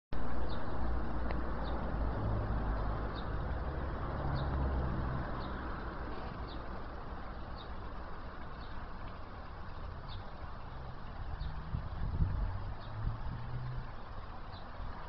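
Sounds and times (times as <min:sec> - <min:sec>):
bird chirping: 0:00.4 - 0:00.9, 0:02.6 - 0:04.7, 0:05.3 - 0:15.0.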